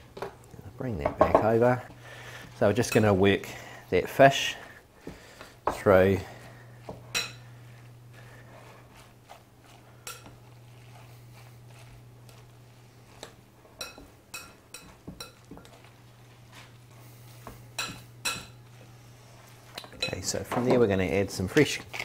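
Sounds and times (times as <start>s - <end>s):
steady low hum: 0.0s - 22.0s
hands mixing food in bowl: 4.1s - 22.0s.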